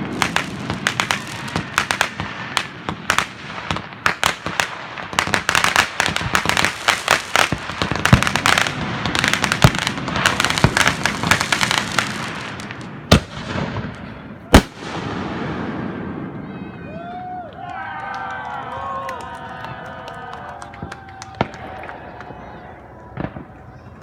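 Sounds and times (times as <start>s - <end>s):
fireworks crackling and popping: 0.0s - 16.6s, 19.6s - 24.0s
loud firework bangs: 0.0s - 16.8s, 20.7s - 22.5s, 23.1s - 24.0s.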